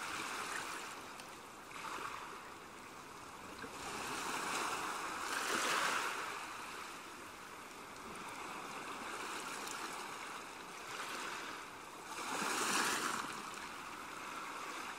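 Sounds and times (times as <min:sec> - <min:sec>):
sea waves washing: 0:01.6 - 0:14.9.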